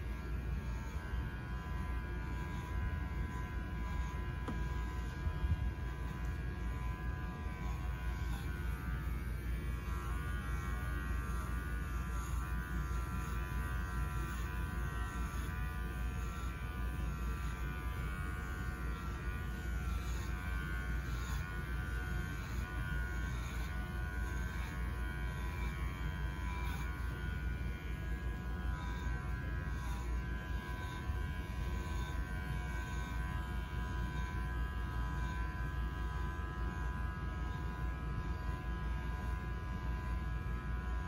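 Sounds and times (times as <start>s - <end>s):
electric clippers buzzing: 0.0s - 41.0s.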